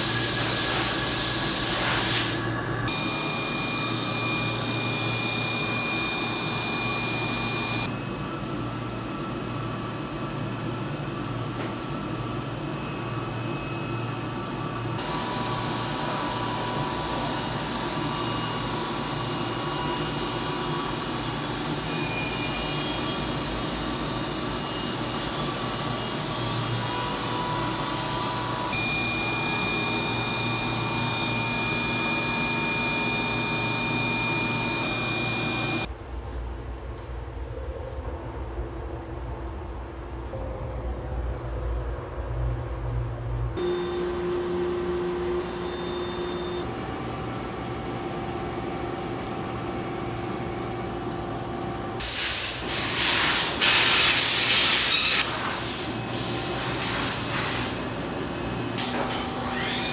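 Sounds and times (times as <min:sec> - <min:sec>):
machinery with high whining tones: 0:00.0 - 0:10.0, 0:12.0 - 0:35.9, 0:43.6 - 0:59.9.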